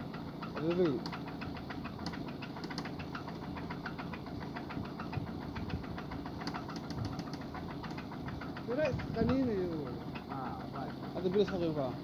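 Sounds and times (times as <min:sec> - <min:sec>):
car engine idling with ticking: 0:00.0 - 0:12.0.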